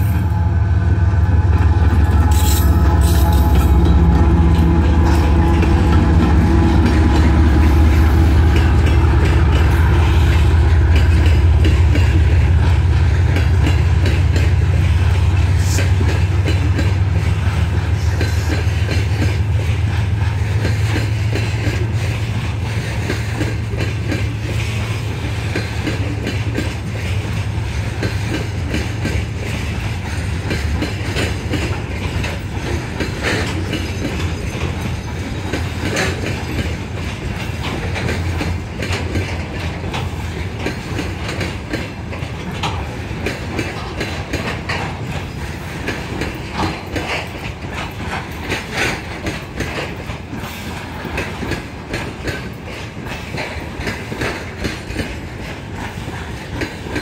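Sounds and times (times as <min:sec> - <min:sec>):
locomotive engine hum: 0:00.0 - 0:51.9
train wheels clicking over rail joints: 0:00.0 - 0:57.0.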